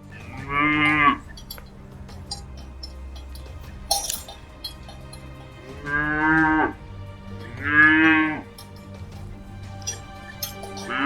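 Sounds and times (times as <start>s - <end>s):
cattle mooing: 0.0s - 11.0s.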